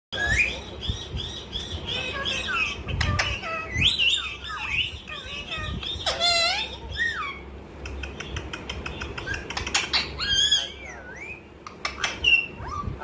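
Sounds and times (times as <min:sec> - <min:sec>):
parrot talking and chattering: 0:00.2 - 0:13.0.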